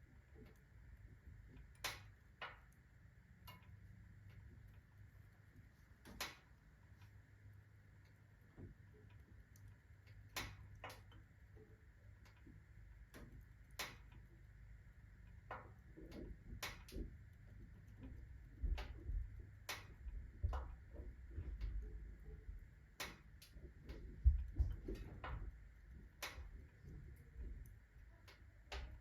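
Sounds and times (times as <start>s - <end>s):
low rumble of fire: 0.0s - 29.0s
stove ticking and clicking: 0.0s - 29.0s.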